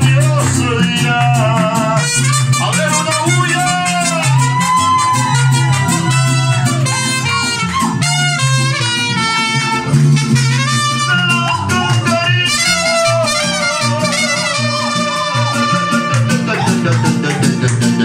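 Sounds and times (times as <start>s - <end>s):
mariachi music with trumpets: 0.0s - 18.0s.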